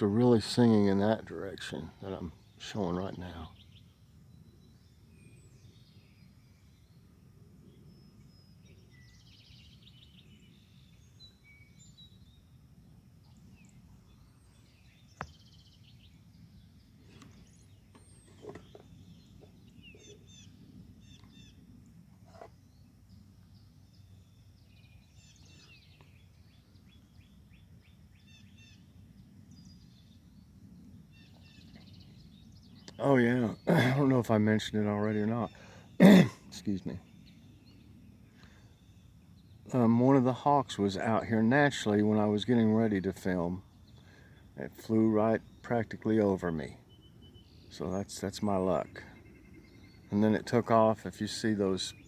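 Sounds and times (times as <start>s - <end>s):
birds chirping and trilling: 0.0s - 52.0s.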